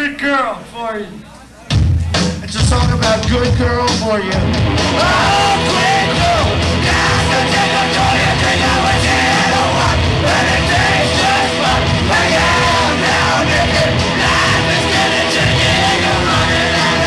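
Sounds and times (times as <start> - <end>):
live rock band playing: 1.7 - 17.0.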